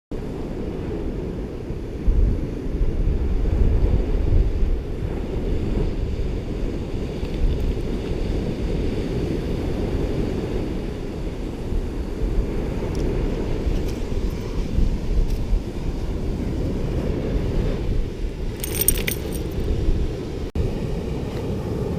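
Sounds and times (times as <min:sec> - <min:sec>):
wind buffeting microphone: 0:00.1 - 0:21.9
ocean surf rumbling: 0:00.2 - 0:21.9.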